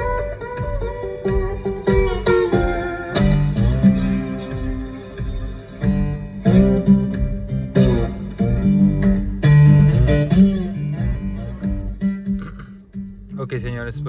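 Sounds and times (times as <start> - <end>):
acoustic blues guitar: 0.0 - 13.4
heavy bass line: 0.0 - 14.0.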